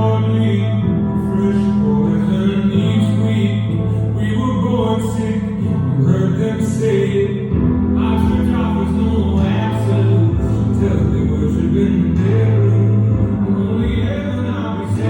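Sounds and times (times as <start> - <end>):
instrumental chords and bass: 0.0 - 15.0
singing voices: 0.0 - 15.0.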